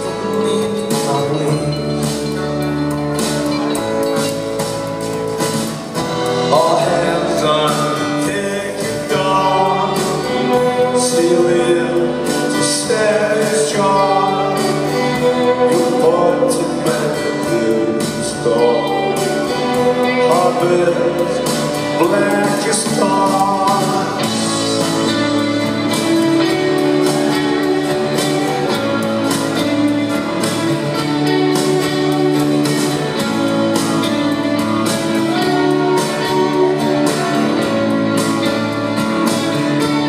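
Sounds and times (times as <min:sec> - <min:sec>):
man singing: 0:00.0 - 0:03.0, 0:06.2 - 0:40.0
rock band playing: 0:00.0 - 0:40.0.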